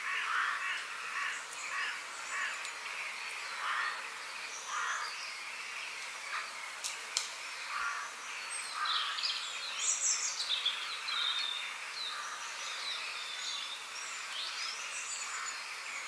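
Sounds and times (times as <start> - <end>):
birds calling and chirping: 0.0 - 16.0
forest ambience hiss: 0.0 - 16.0.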